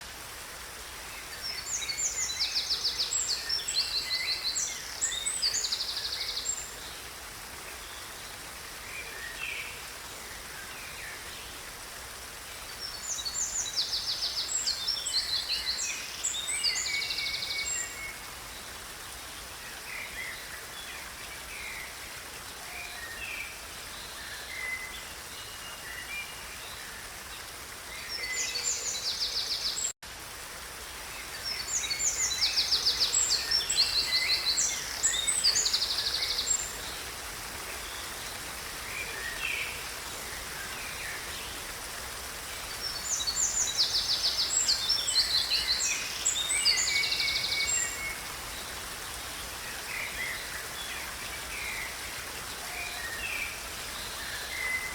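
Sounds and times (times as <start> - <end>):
forest ambience hiss: 0.0 - 54.9.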